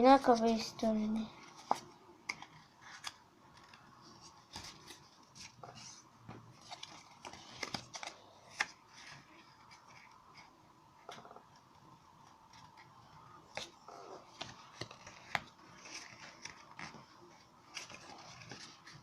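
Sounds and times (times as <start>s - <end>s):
paper rustling: 0.2s - 11.4s, 12.2s - 19.0s.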